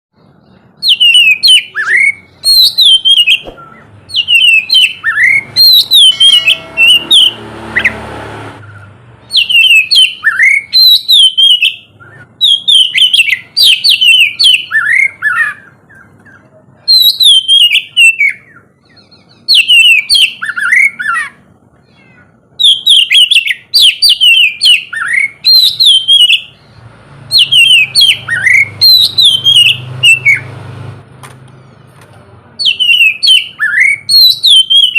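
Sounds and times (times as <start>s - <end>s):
bird singing whistled phrases: 0.8s - 7.9s, 8.6s - 21.4s, 22.6s - 26.6s, 27.3s - 30.5s, 32.6s - 34.9s.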